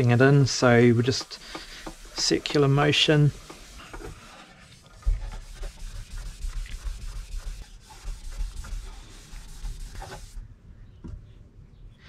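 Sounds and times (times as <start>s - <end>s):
cloth scrubbing plastic: 0.0s - 10.4s.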